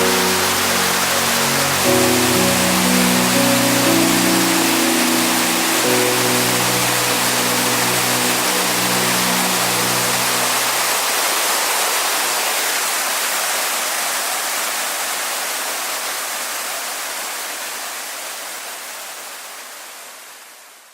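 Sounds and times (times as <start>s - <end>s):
waterfall rushing: 0.0s - 20.4s.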